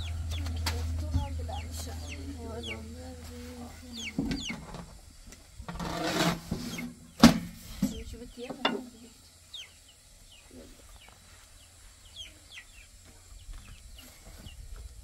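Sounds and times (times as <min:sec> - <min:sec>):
chickens clucking: 0:00.0 - 0:05.4, 0:06.5 - 0:07.3, 0:08.0 - 0:15.0.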